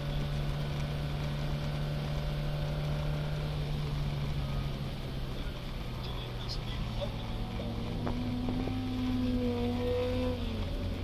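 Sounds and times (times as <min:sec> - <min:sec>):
race car engine under load: 0:00.0 - 0:11.0.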